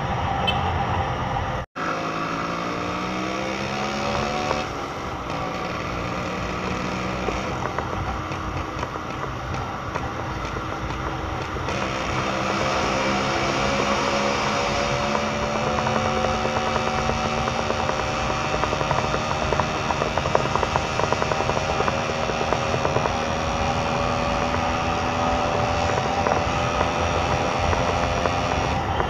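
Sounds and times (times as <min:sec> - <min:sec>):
wind and road noise: 0:00.0 - 0:29.0
two-stroke motorcycle engine: 0:01.8 - 0:29.0.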